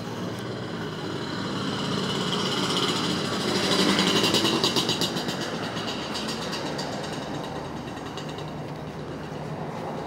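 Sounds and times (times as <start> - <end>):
street noise: 0.0 - 10.0.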